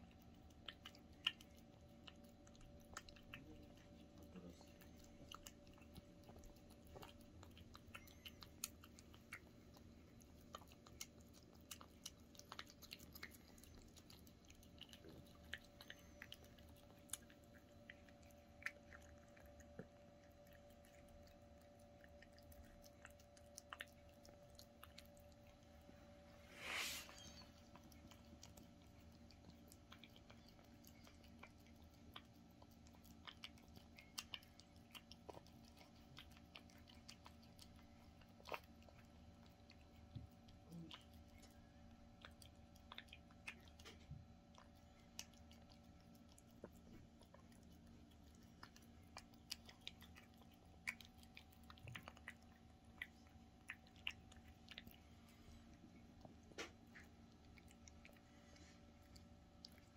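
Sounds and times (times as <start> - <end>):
cat chewing and smacking: 0.0 - 59.9
low steady hum: 0.0 - 59.9.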